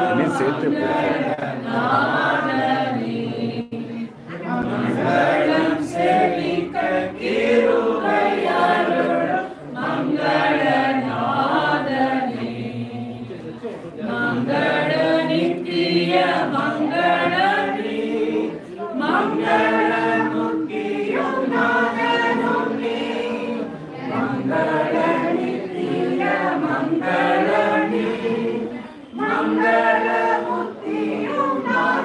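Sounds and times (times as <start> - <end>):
group singing without instruments: 0.0 - 32.0.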